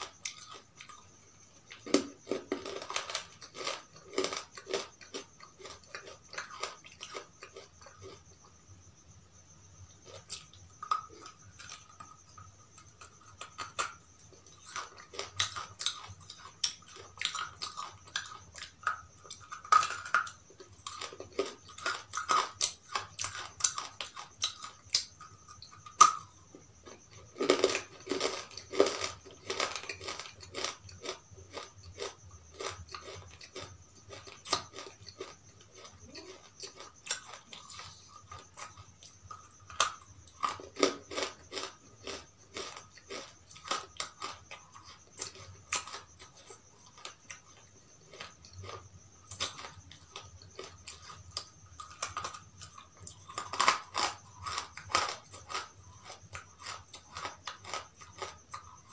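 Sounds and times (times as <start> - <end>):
person chewing crunchy food: 0.0 - 8.6, 9.9 - 58.9.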